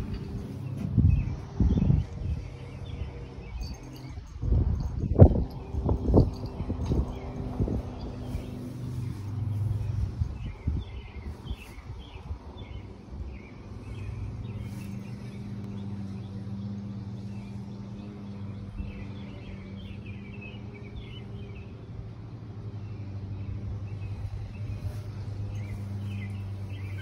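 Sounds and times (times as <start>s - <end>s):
birds chirping: 0.0s - 27.0s
low mechanical hum: 0.0s - 27.0s.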